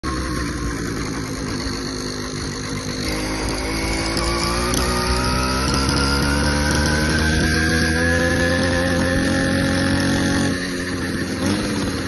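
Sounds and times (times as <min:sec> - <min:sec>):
motorized bicycle engine running: 0:00.1 - 0:12.0.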